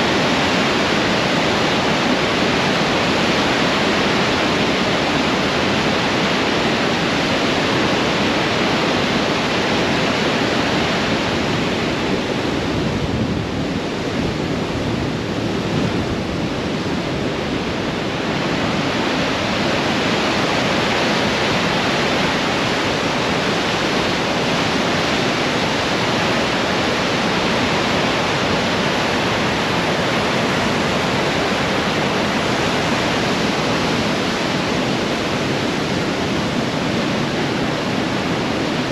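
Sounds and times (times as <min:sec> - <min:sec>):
water rushing over falls: 0:00.0 - 0:38.9.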